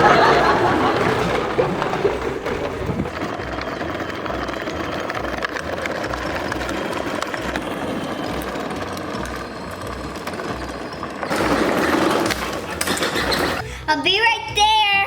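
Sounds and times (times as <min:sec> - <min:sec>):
small motor running: 0:00.0 - 0:13.6.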